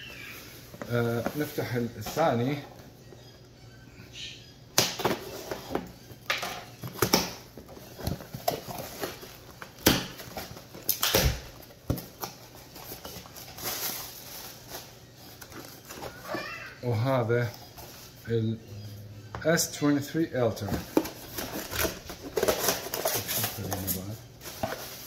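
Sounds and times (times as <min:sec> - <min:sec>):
cardboard and plastic rustling: 0:00.0 - 0:03.0, 0:05.0 - 0:18.4, 0:19.5 - 0:25.0.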